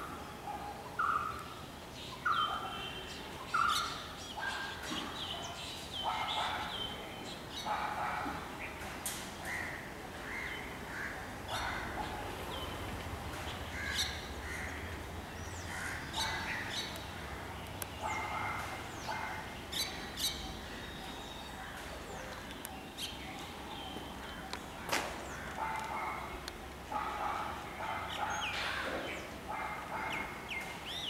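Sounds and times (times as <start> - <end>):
birds chirping and squawking: 0.0 - 1.5, 2.2 - 31.0.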